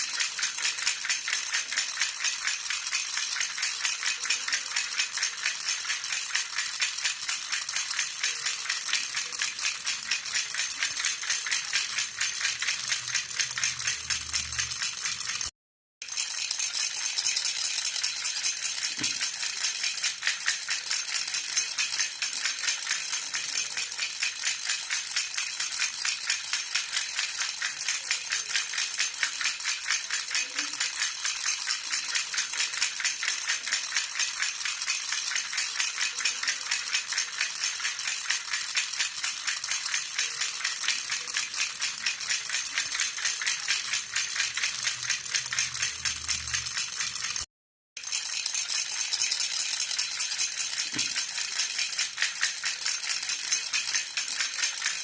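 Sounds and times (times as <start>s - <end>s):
metal baby rattle jingling: 0.0s - 55.0s.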